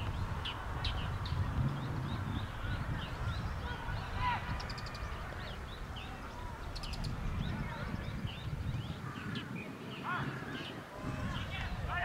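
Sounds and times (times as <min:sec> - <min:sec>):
bird chirps: 0:00.4 - 0:11.5.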